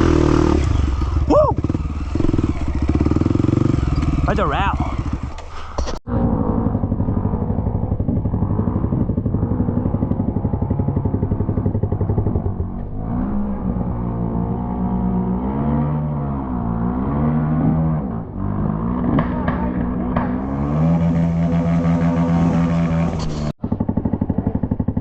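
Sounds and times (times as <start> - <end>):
motorcycle engine chugging and revving: 0.0 - 25.0.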